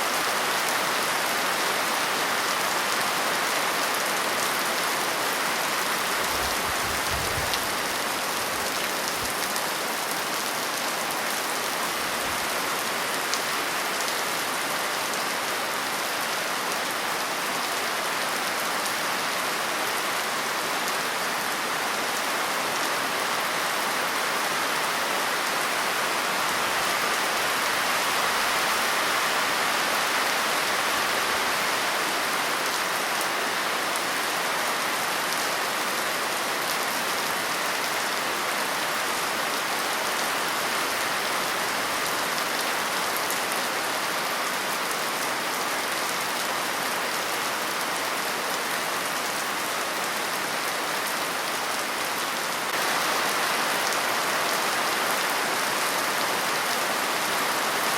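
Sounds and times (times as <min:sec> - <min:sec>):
rain falling on a surface: 0:00.0 - 0:57.9.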